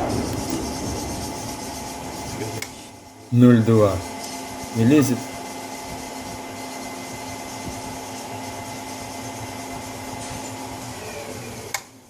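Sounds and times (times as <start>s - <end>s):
machine whirring: 0.0s - 11.8s.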